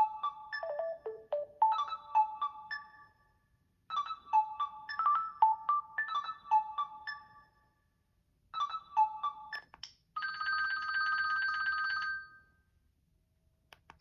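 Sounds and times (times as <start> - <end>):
bell-like electronic ringtone melody: 0.0 - 7.8, 8.5 - 12.4.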